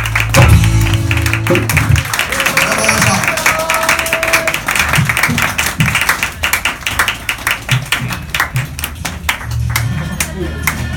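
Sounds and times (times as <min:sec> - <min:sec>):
audience clapping: 0:00.0 - 0:10.9.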